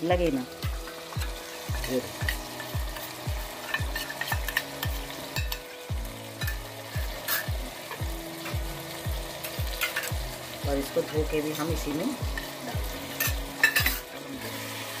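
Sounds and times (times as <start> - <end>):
background music with low beat: 0.0 - 15.0
masala sizzling and crackling: 0.0 - 15.0.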